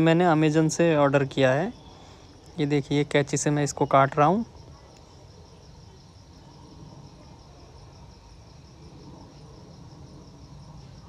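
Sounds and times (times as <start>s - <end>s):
insect chirping trill: 0.0s - 11.0s
low steady hum: 0.0s - 11.0s.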